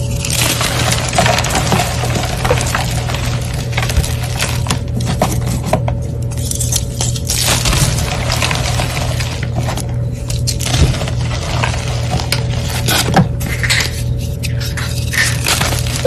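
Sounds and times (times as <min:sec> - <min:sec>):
brittle blocks crunching by hand: 0:00.0 - 0:16.0.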